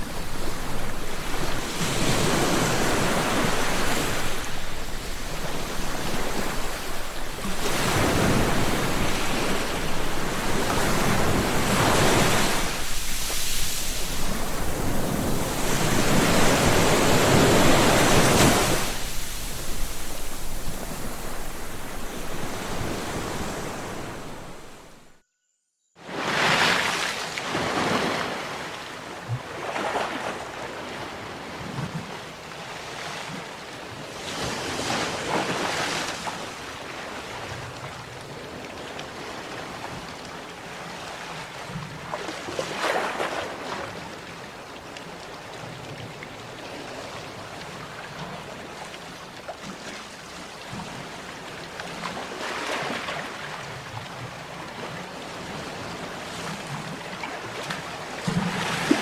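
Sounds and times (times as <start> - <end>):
sea waves breaking on shore: 0.0 - 25.1, 26.0 - 59.0.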